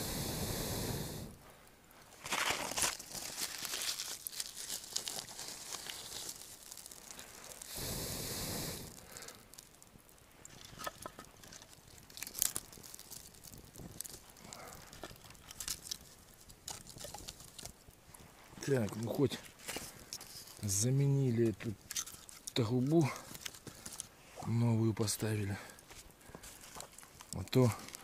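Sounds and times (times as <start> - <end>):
small fire crackles: 0.0 - 28.0
twigs rustling and crunching: 1.9 - 7.8, 8.9 - 28.0.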